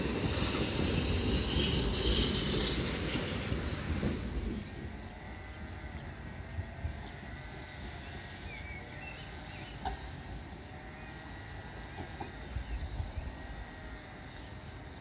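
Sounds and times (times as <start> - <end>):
distant train rolling: 0.0 - 15.0.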